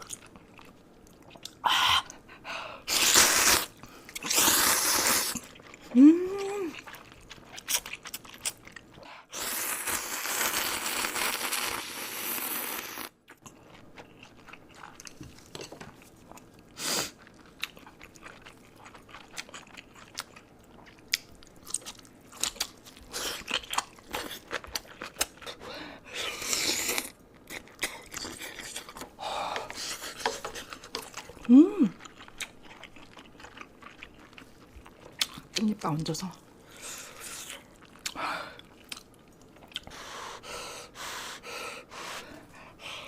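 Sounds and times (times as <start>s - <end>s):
crunching and chewing food: 0.0s - 2.2s, 3.7s - 12.4s, 13.0s - 40.4s.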